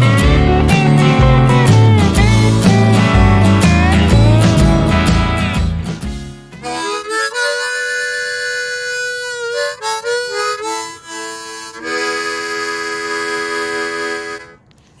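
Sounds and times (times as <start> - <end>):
harmonica playing: 0.0 - 14.8.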